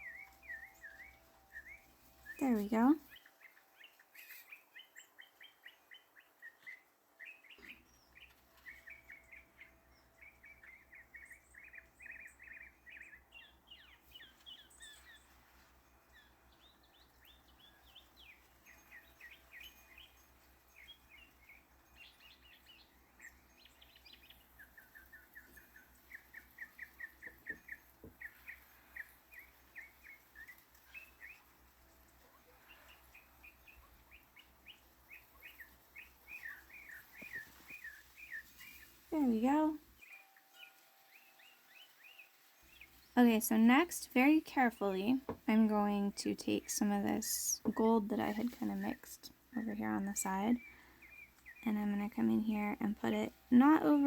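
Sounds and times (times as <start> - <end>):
faint songbirds chirping: 0.0 - 54.0.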